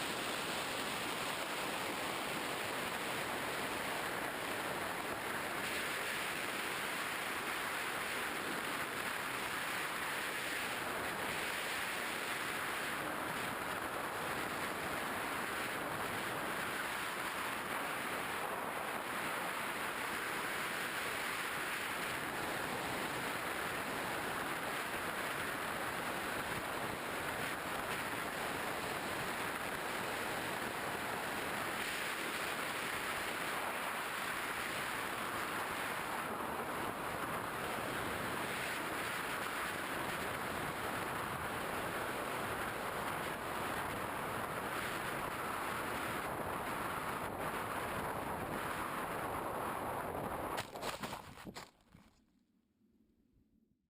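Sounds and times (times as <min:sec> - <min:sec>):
wind rushing past camera: 0:00.0 - 0:51.6.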